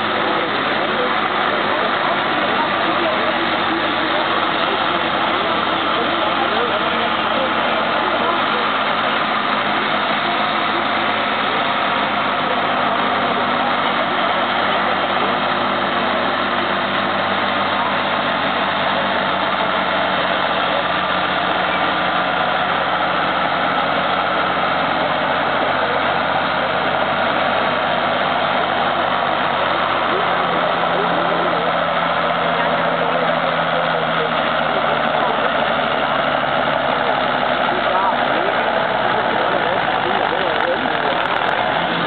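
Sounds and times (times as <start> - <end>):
tractor diesel engine under load: 0.0 - 42.0.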